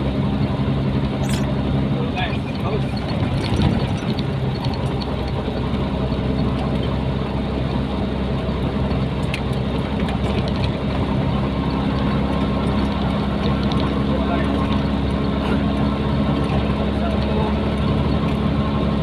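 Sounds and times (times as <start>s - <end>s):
diesel truck engine running: 0.0s - 19.0s
road noise: 0.0s - 19.0s.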